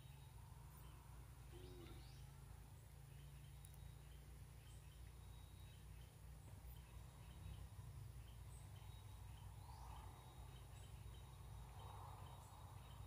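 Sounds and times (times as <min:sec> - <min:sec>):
faint bird chirps: 0:00.0 - 0:13.0
high insect hum: 0:00.0 - 0:13.0.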